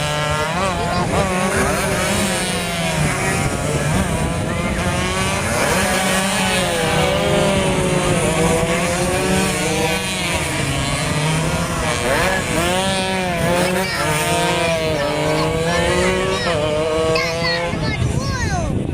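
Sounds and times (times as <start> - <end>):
racing motorcycles revving: 0.0 - 18.9.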